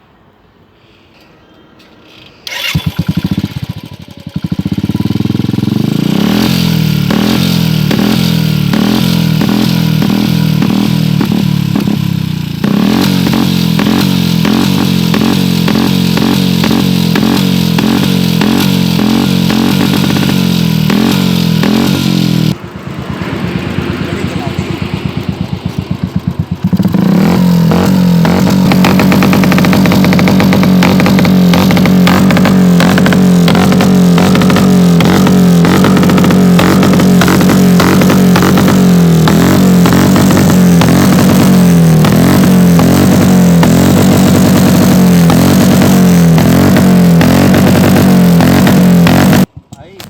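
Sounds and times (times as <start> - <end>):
motorcycle engine starting and running: 1.8 - 50.0.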